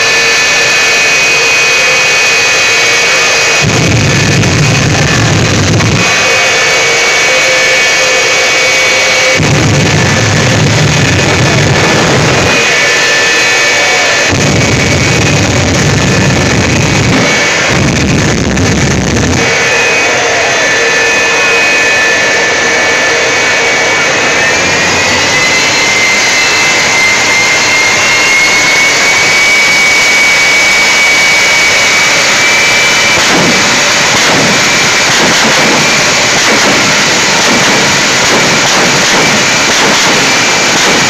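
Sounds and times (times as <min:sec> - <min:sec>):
afterburner rumble: 0:00.0 - 0:41.0
turbine engine whine: 0:00.0 - 0:41.0.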